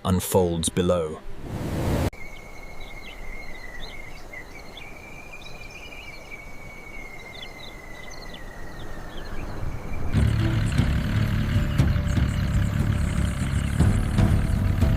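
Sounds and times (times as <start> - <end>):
bird chirps: 2.2 - 14.9.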